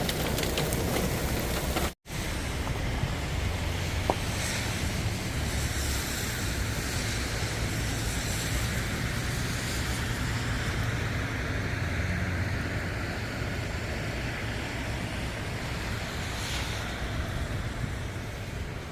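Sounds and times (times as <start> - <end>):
heavy rain: 0.0 - 18.9
wind rumble on microphone: 0.0 - 18.9.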